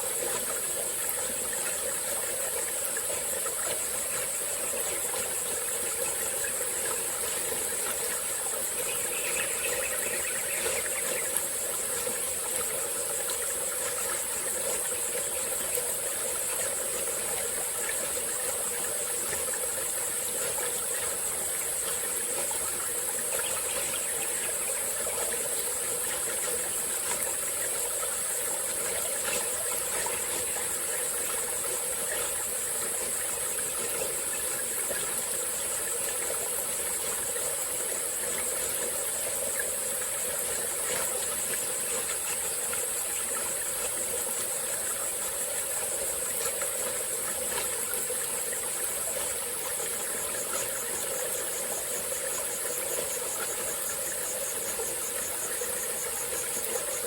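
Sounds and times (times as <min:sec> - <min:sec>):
high-pitched insect chorus: 0:00.0 - 0:57.0
stream trickling: 0:00.0 - 0:57.0.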